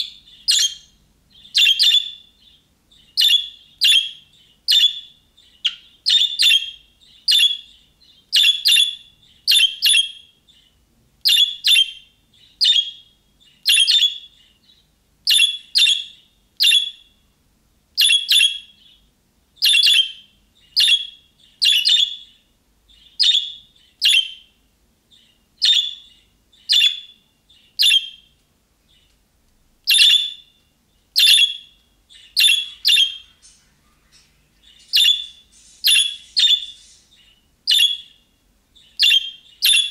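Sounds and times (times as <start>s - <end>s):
budgerigar chirping: 0.0s - 17.2s, 18.0s - 28.3s, 29.9s - 30.6s, 31.2s - 33.6s, 34.6s - 39.9s.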